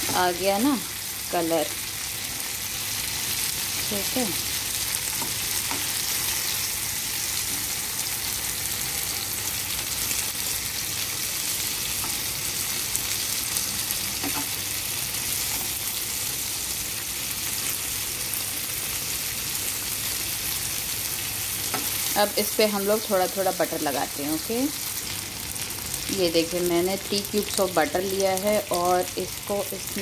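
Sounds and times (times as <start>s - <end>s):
chicken sizzling in oil: 0.0s - 30.0s.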